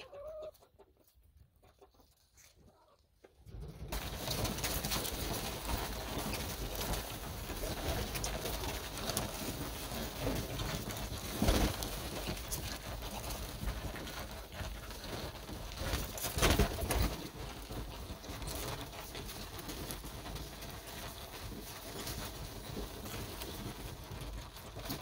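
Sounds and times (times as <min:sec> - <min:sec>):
wings flapping: 0:03.4 - 0:25.0.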